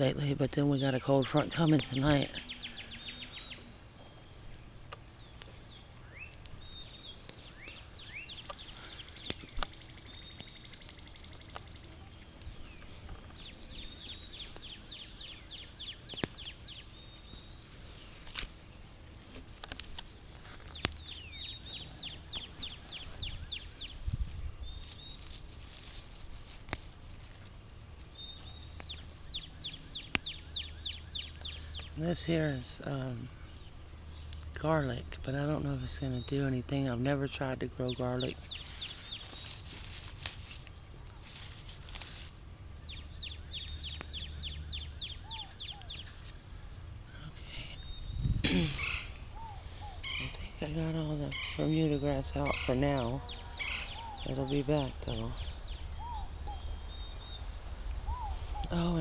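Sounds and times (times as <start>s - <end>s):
faint low hum: 0.0s - 59.0s
songbird singing: 0.0s - 59.0s.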